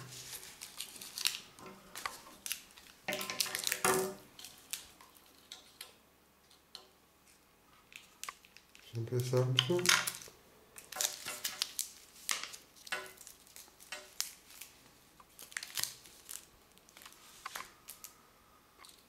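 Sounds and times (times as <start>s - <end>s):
plastic wrapping crinkling: 0.0s - 5.8s, 7.2s - 18.2s.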